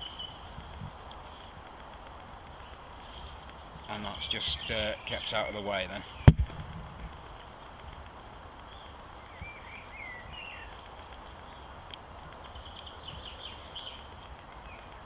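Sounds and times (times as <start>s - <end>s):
small birds twittering: 0.0s - 6.4s, 7.3s - 15.0s
outdoor background hiss: 0.0s - 15.0s.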